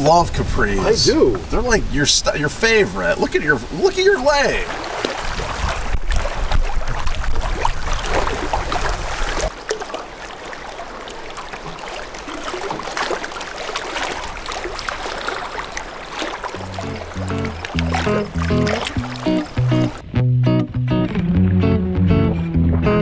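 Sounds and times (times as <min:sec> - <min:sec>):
paddle dripping: 0:00.0 - 0:20.1
water splashing from paddling: 0:00.0 - 0:20.1.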